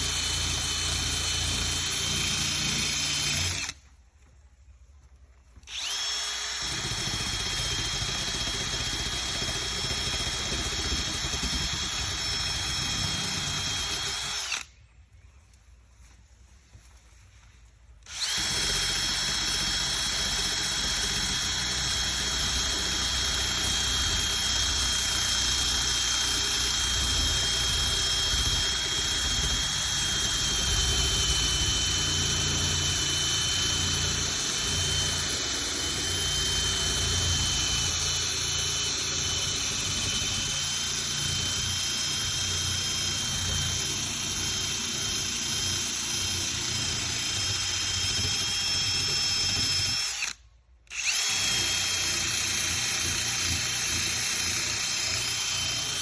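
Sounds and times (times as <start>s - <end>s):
drill sanding metal: 0.0s - 3.8s, 5.7s - 14.6s, 18.1s - 56.0s.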